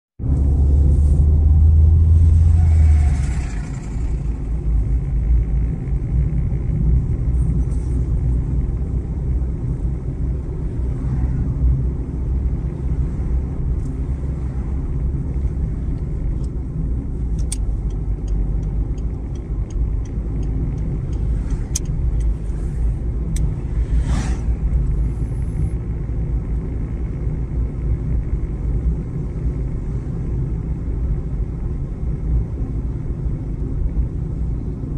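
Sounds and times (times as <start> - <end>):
car driving engine and tyre noise: 0.2 - 34.9.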